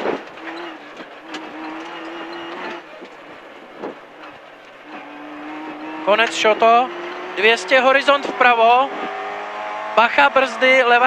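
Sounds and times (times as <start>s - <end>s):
rally car engine from inside: 0.0s - 11.0s
tyre and road noise: 0.0s - 11.0s.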